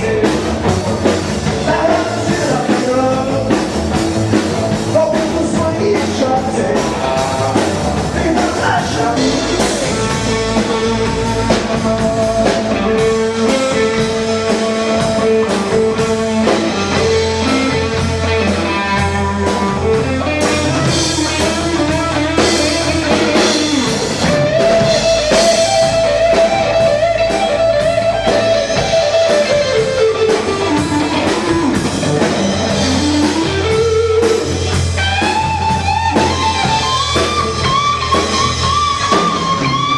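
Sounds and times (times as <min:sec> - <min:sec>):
bass and drums: 0:00.0 - 0:39.9
lead guitar bending notes: 0:00.0 - 0:39.9.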